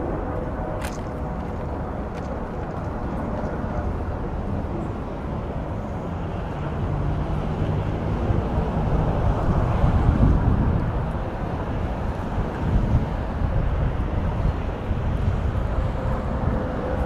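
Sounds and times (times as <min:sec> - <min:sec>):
street traffic rumble: 0:00.0 - 0:17.0
wind buffeting microphone: 0:00.0 - 0:17.0.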